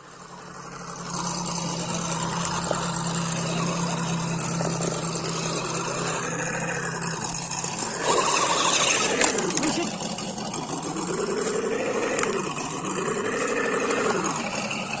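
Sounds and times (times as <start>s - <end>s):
electric motor and gearbox whirring: 0.0s - 15.0s.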